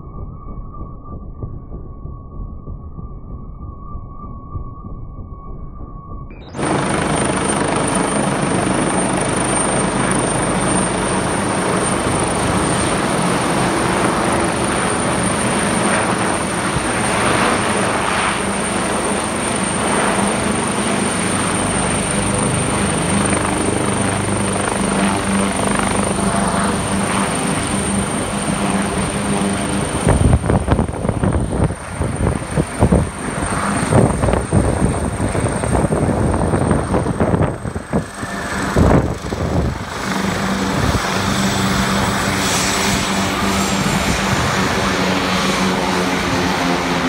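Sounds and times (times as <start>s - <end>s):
helicopter rotor and turbine: 0.0s - 47.0s
wind rumbling on microphone: 0.0s - 47.0s.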